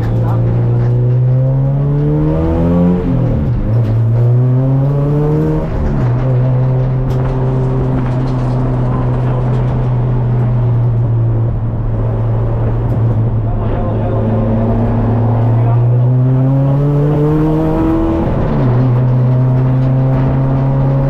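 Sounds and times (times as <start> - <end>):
car engine revving through gears: 0.0 - 21.0.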